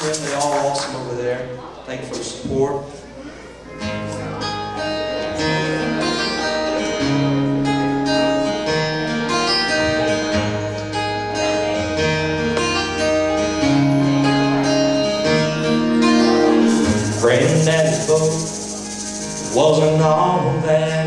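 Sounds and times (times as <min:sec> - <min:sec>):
plucked guitar notes: 0:03.7 - 0:21.0
held bass notes: 0:03.9 - 0:21.0.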